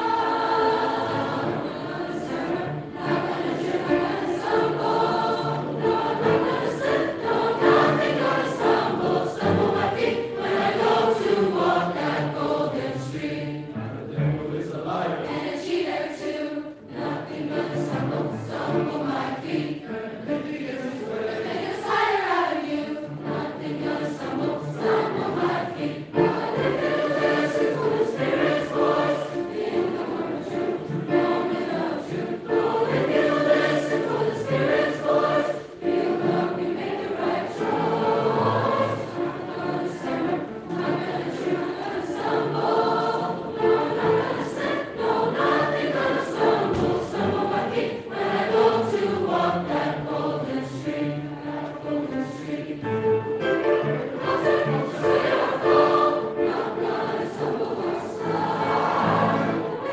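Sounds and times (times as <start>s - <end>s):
youth choir singing: 0.0s - 59.9s.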